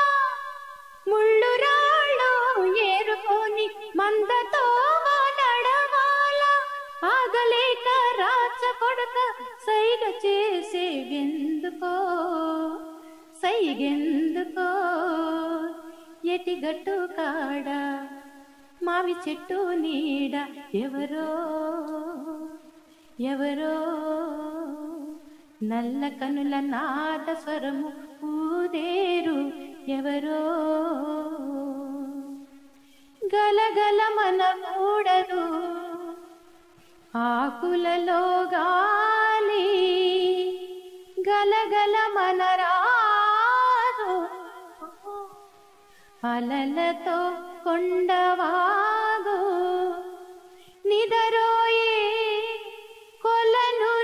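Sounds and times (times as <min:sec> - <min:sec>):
woman singing unaccompanied: 0:00.0 - 0:54.0.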